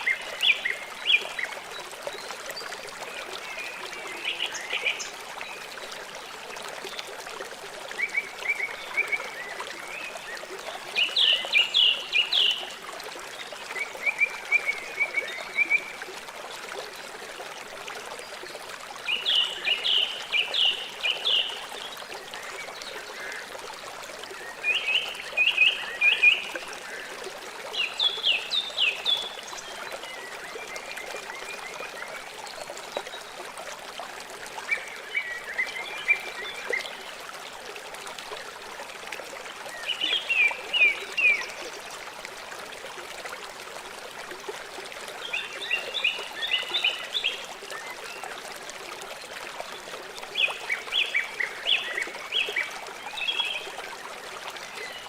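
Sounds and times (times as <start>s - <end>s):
river water running: 0.0s - 55.0s.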